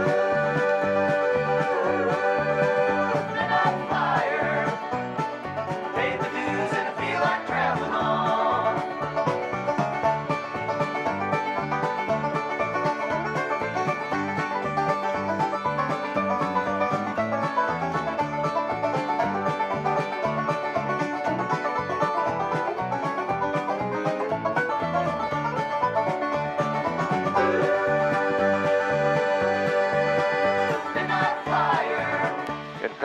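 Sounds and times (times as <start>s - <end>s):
fast-picked banjo: 0.0s - 33.0s
guitar: 0.0s - 33.0s.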